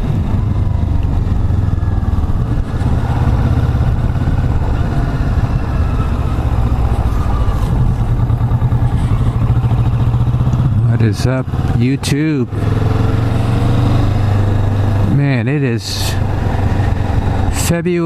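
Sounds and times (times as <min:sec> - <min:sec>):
motorcycle engine running: 0:00.0 - 0:15.4, 0:16.0 - 0:17.7.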